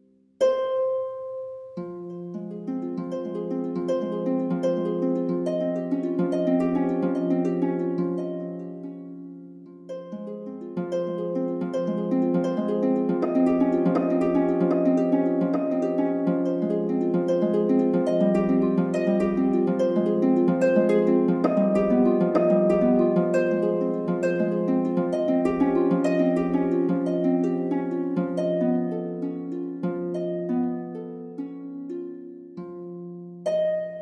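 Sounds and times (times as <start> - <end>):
plucked harp-like notes: 0.4 - 34.0.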